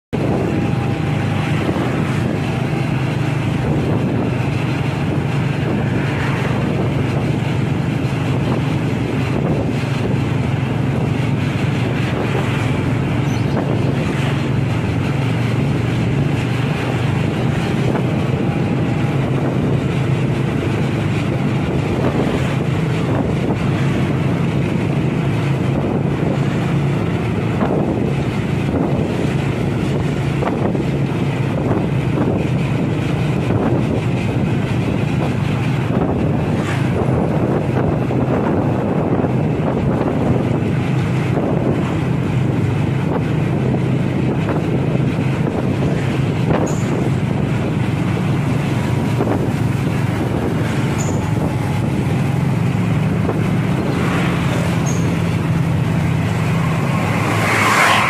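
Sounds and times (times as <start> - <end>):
car engine hum and road noise: 0.1 - 58.0
wind rushing over microphone: 0.1 - 58.0.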